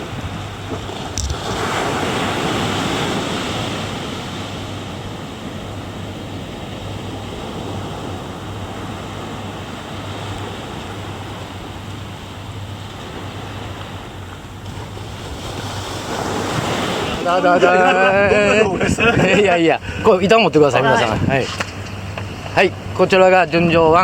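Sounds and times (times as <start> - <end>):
wind on microphone: 0.0 - 20.1, 20.8 - 24.0
ocean waves breaking: 0.0 - 24.0.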